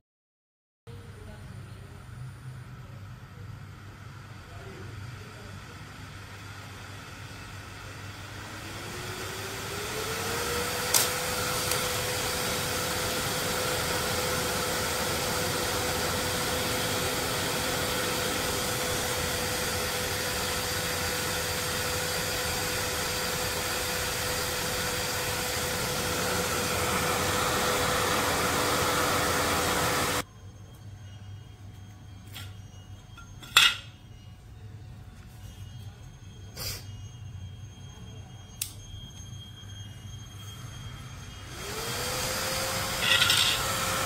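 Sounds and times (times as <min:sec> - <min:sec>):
electric fan whirring: 0:01.0 - 0:44.0.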